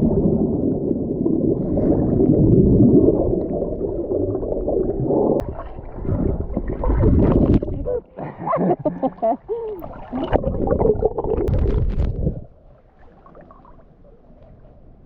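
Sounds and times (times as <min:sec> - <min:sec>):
falling water rumbling and gurgling: 0:00.0 - 0:15.0.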